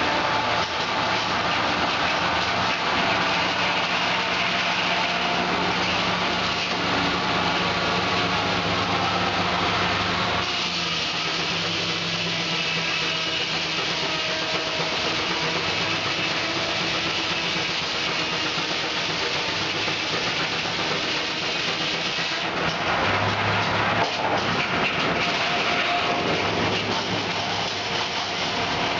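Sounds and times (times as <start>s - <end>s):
sawmill blade cutting log: 0.0s - 28.9s.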